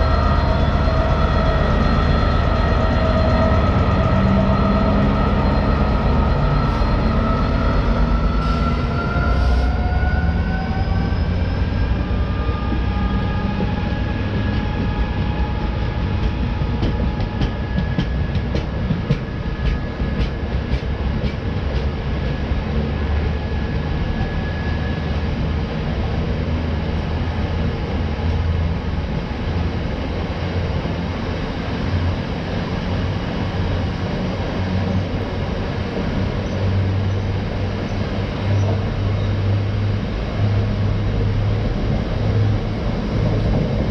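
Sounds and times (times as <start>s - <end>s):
freight train passing: 0.0s - 43.9s.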